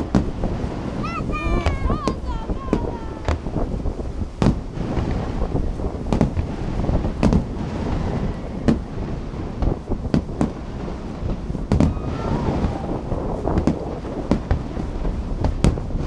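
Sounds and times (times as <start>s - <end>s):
fireworks booming: 0.0s - 16.0s
wind buffeting microphone: 0.0s - 16.0s.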